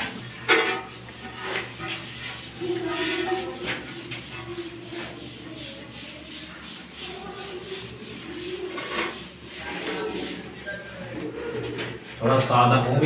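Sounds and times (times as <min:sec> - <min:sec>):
tile scraping in wet adhesive: 0:00.0 - 0:10.6.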